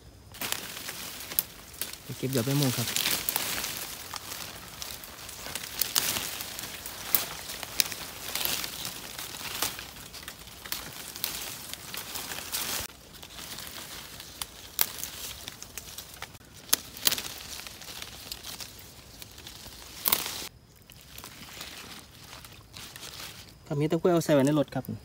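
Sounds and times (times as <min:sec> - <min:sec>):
sharp clicks and crackles: 0:00.3 - 0:21.8
crinkling and rustling handling noise: 0:00.3 - 0:23.7.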